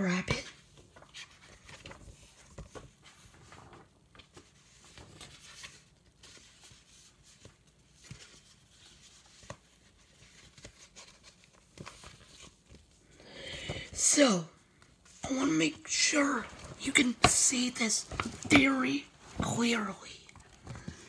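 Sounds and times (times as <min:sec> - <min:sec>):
low room hum: 0:00.0 - 0:21.0
paper rustling: 0:00.3 - 0:13.9, 0:14.6 - 0:21.0.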